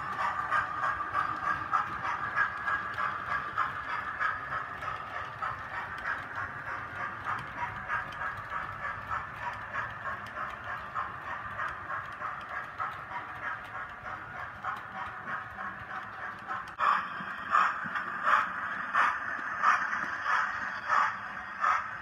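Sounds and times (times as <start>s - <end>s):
model train running hum: 0.0s - 22.0s
model train wheels clicking: 0.0s - 22.0s.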